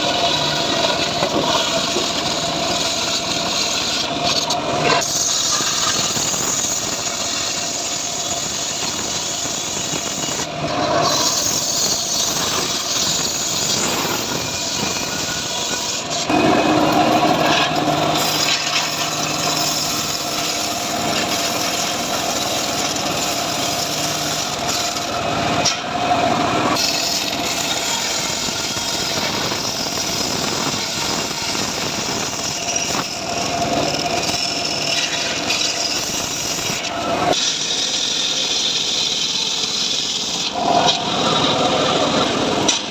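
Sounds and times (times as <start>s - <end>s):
sawmill grinding through logs: 0.0s - 42.9s.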